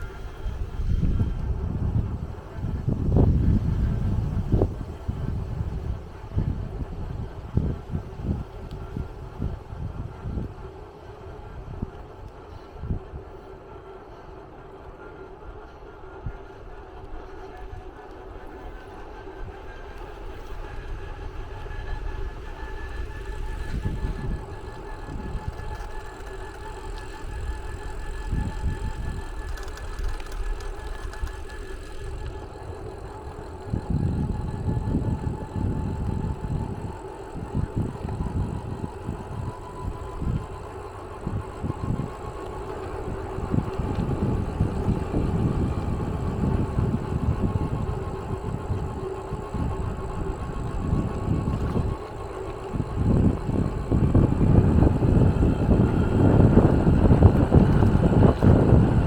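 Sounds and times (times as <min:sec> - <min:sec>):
faint steady whine: 0:00.0 - 0:59.0
vehicle engine rumble: 0:00.0 - 0:59.0.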